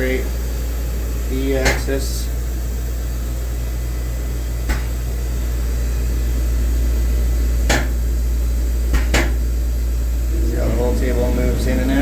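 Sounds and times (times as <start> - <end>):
grinder machine humming: 0.0 - 12.0.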